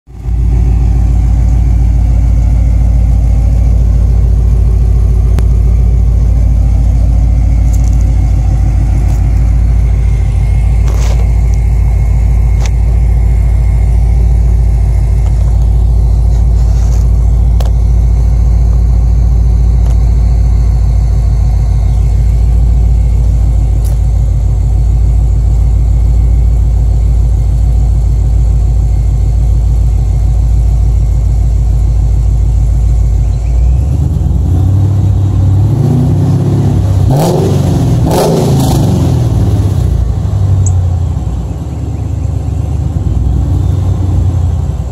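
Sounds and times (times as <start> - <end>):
car engine idling: 0.1 - 44.9.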